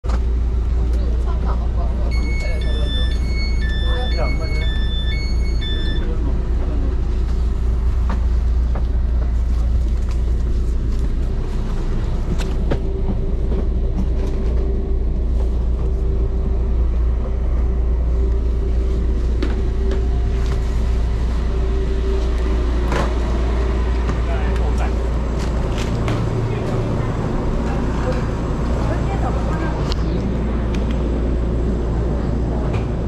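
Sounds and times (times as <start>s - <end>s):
low rumble and hum in train: 0.0s - 33.0s.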